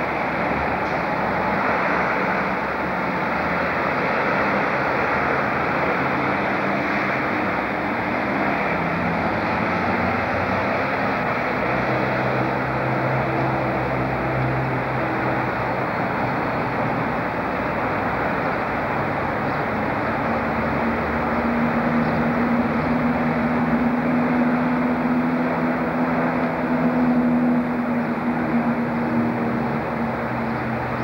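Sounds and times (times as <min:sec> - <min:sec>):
locomotive engine drone: 0:00.0 - 0:31.0.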